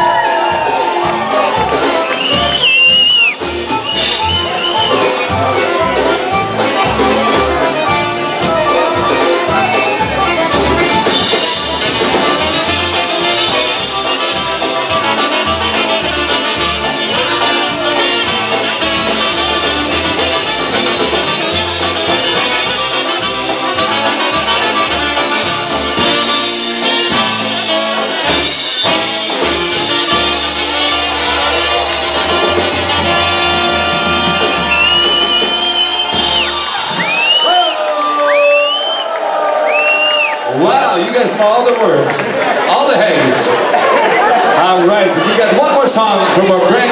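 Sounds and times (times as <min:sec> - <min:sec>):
trumpet lead: 0:00.0 - 0:41.1
polka band playing: 0:00.0 - 0:46.9.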